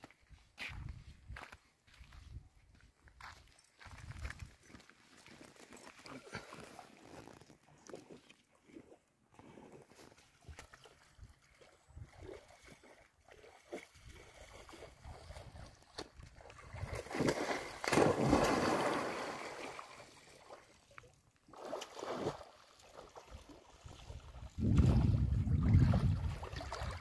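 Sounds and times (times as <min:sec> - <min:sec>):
water splashing in a muddy pond: 0:04.2 - 0:27.0.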